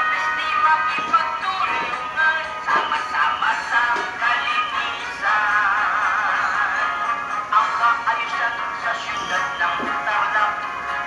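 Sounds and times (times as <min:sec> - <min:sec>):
thin wavering melody music: 0:00.0 - 0:11.0.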